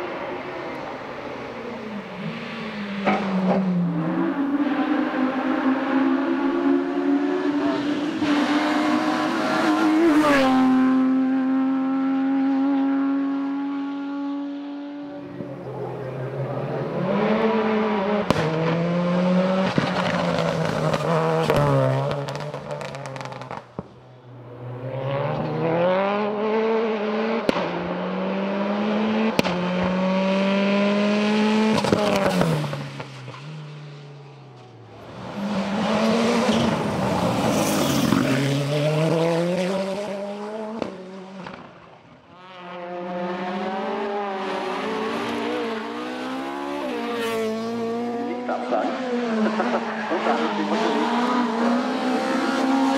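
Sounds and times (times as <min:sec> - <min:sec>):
race car engines passing: 0:00.0 - 0:52.9.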